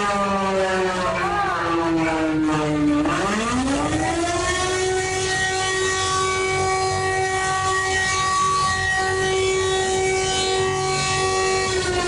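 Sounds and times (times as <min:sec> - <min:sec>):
alarm siren tone: 0:00.0 - 0:12.0.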